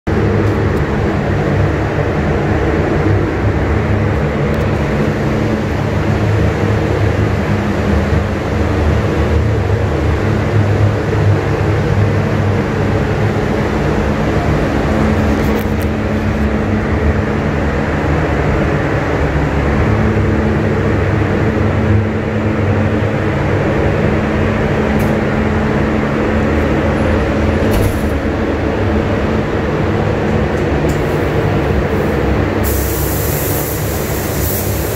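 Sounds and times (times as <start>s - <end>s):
low hum: 0.1s - 32.6s
ventilation fans droning: 0.1s - 34.9s.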